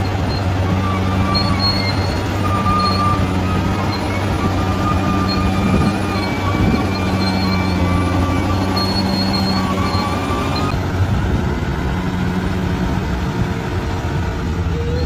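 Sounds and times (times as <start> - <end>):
high-pitched squeal: 0.0 - 12.9, 14.5 - 15.0
bulldozer diesel engine running: 0.0 - 15.0.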